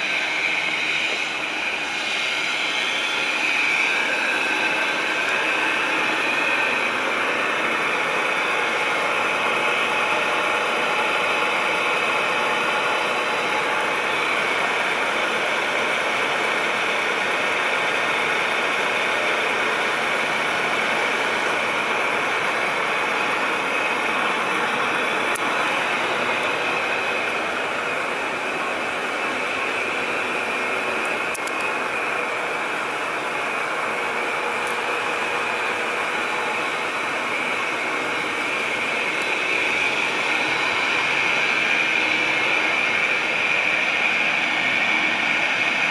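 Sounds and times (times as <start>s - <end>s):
garbage truck engine idling: 0.0s - 45.9s.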